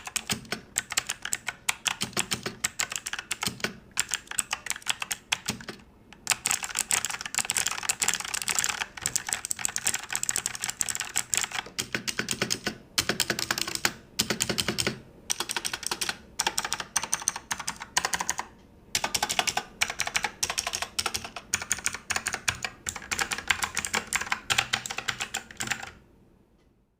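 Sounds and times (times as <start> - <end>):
fast typing on mechanical keyboard: 0.0 - 26.0.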